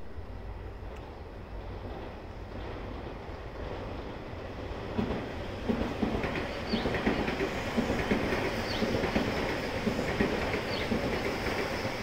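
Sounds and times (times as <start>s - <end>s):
train wheels clattering: 0.8s - 12.0s.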